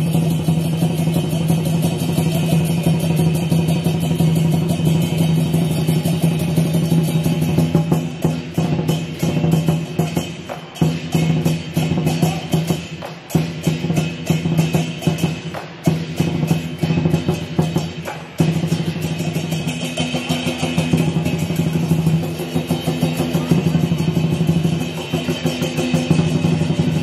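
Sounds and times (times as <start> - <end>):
cymbals clashing: 0.0 - 27.0
large drum beating: 0.0 - 27.0.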